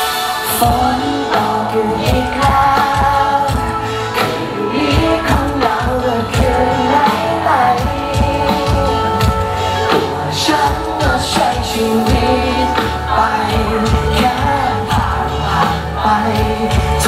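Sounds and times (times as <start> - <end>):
electric guitar: 0.0 - 17.0
man singing into microphone: 0.0 - 17.0
steady drum beat: 0.0 - 17.0.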